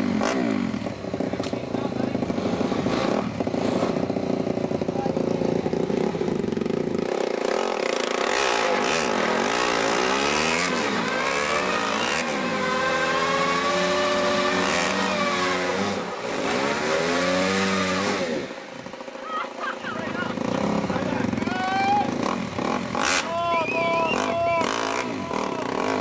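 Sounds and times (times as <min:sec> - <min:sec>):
motorbike engines revving: 0:00.0 - 0:26.0.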